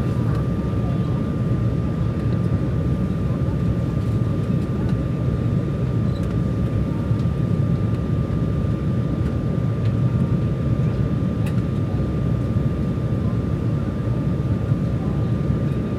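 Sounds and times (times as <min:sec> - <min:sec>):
jet engines and airflow rumble: 0:00.0 - 0:15.9.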